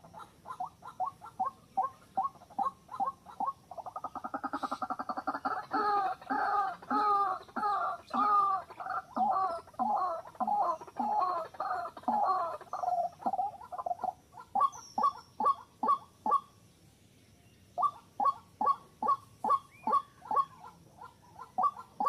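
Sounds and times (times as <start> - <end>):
bird croaking calls: 0.0 - 16.6, 17.8 - 22.0.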